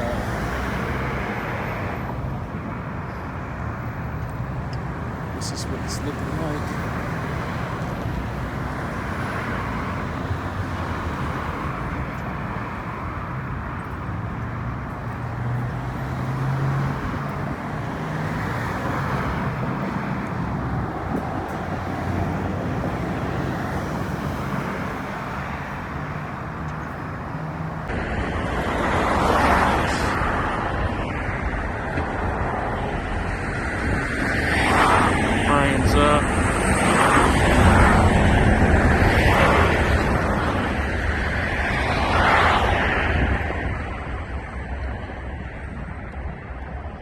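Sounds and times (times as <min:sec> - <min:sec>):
vehicle passing: 0:00.0 - 0:44.7
road traffic noise: 0:00.0 - 0:47.0.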